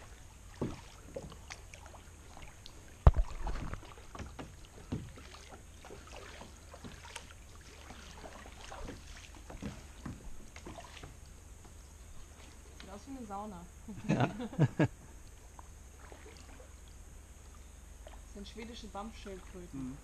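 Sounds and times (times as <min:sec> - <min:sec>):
paddle splashes: 0:00.0 - 0:13.4, 0:15.4 - 0:19.7.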